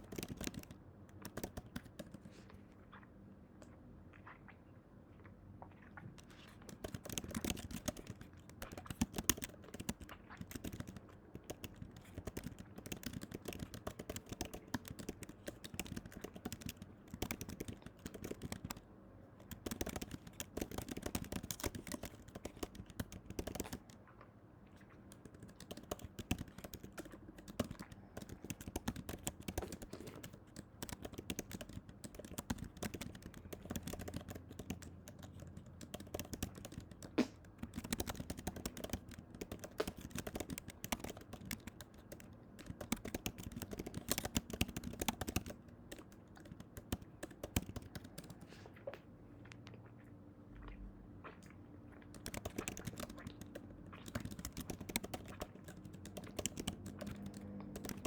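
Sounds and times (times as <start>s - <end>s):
rapid clicking and tapping: 0.0s - 2.4s, 6.2s - 24.0s, 24.8s - 48.5s, 52.1s - 58.0s.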